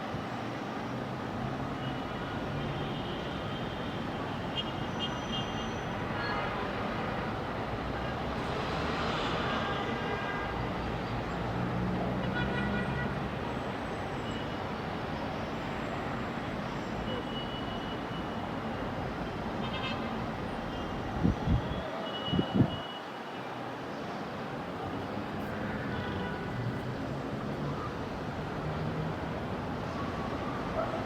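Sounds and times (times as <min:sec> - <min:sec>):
city traffic hum: 0:00.0 - 0:31.0.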